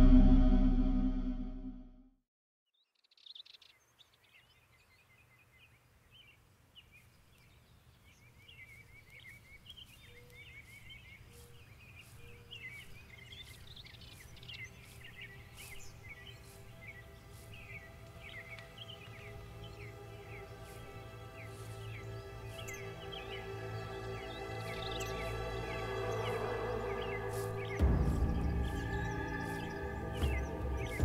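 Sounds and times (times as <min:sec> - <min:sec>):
birds chirping and twittering: 0:02.7 - 0:31.0.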